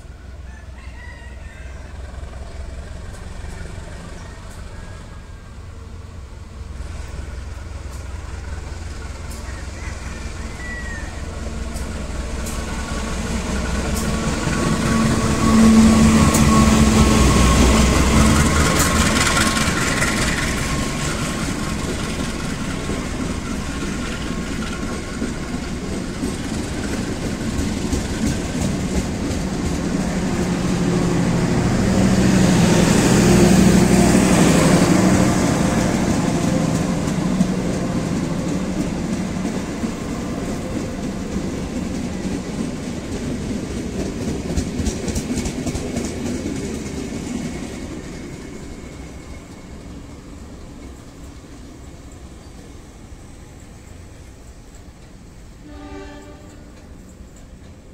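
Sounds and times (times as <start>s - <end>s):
diesel locomotive engine passing: 0.0s - 57.9s
train coaches rolling on rails: 0.0s - 57.9s.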